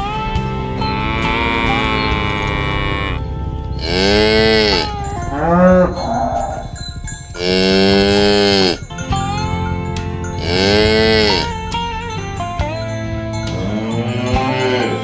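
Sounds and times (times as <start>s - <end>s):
cows mooing: 0.0s - 15.0s.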